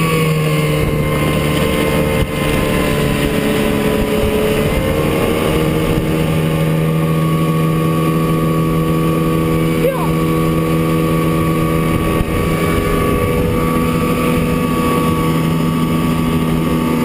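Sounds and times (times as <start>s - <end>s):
outboard motor droning: 0.0s - 17.0s.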